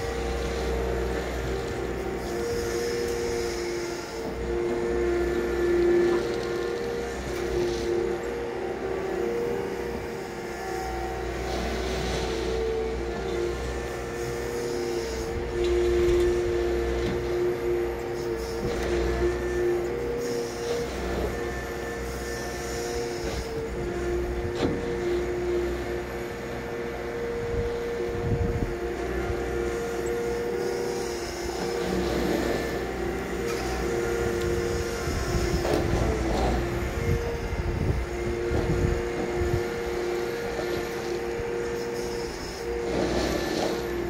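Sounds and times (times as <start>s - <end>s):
excavator engine and hydraulics: 0.0s - 44.0s.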